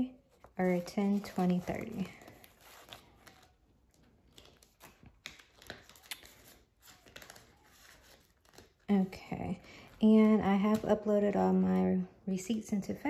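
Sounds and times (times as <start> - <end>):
banknotes rustling: 0.2 - 12.0.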